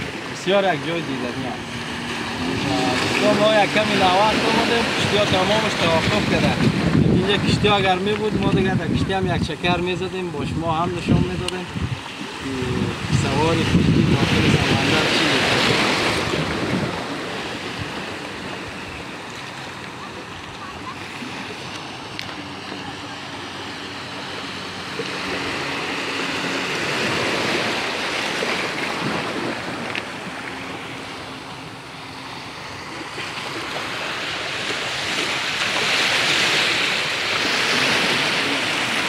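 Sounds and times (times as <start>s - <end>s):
waves breaking on rocky shore: 0.0s - 39.0s.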